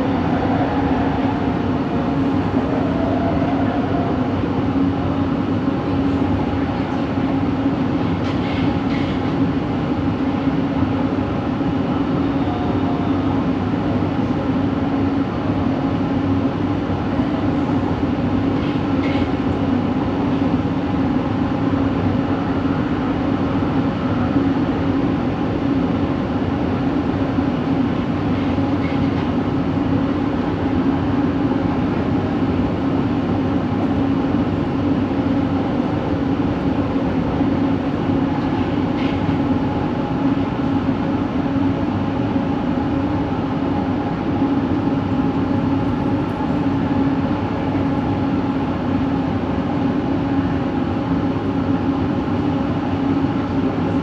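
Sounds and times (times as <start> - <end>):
train coach rumbling: 0.0 - 54.0.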